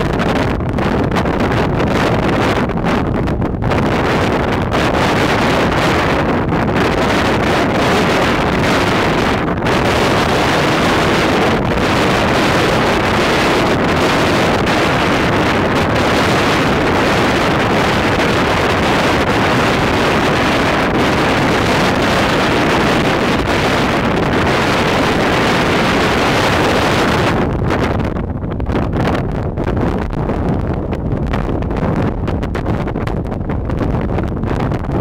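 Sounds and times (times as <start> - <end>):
heavy surf breaking: 0.0 - 35.0
strong wind buffeting microphone: 0.0 - 35.0.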